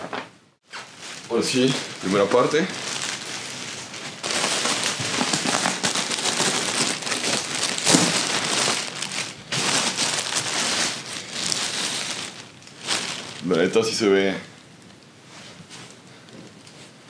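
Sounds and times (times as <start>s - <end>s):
plastic wrapping crinkling: 0.1s - 15.1s.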